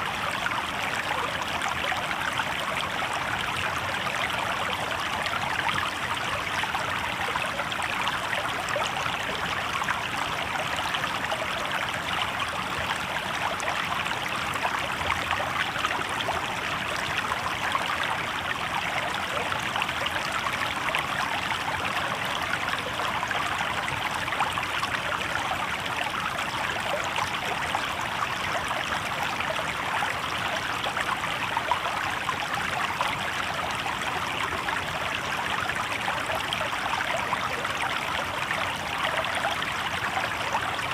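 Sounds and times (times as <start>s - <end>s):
river babbling over rocks: 0.0s - 40.9s.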